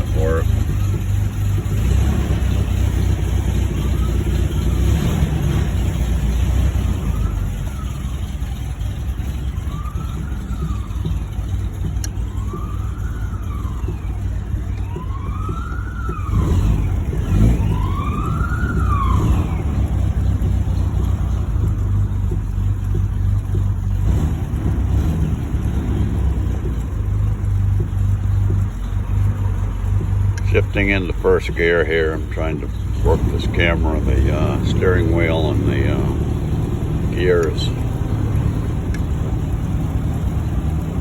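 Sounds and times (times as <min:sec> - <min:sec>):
car engine running: 0:00.0 - 0:41.0
emergency siren wailing: 0:00.0 - 0:41.0.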